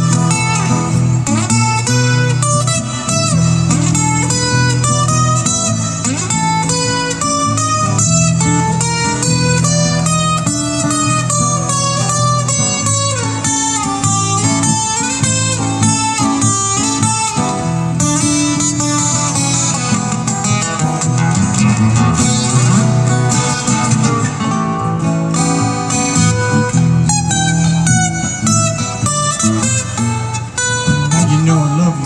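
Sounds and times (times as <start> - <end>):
acoustic guitars strumming: 0.0 - 32.0
picked guitar lead line: 0.0 - 32.0.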